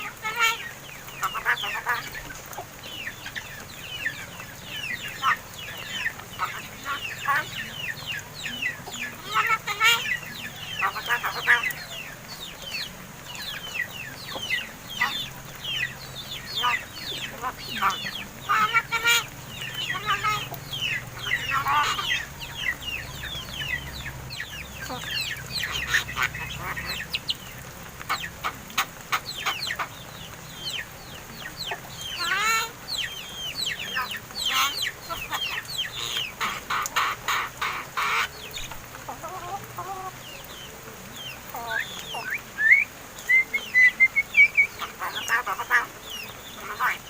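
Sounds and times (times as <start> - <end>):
mynas chattering: 0.0 - 47.0.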